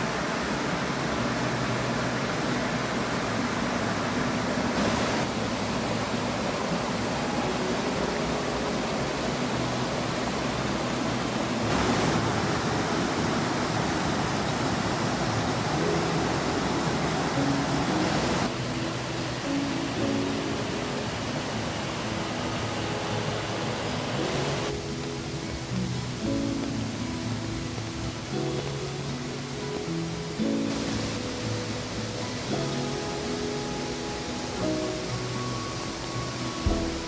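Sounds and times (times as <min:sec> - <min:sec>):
waterfall pouring heavily: 0:00.0 - 0:37.0.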